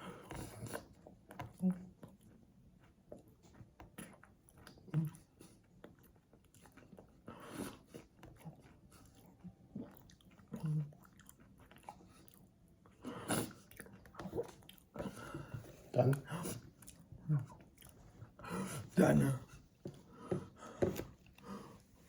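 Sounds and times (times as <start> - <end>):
soft chewing: 0.0 - 22.0.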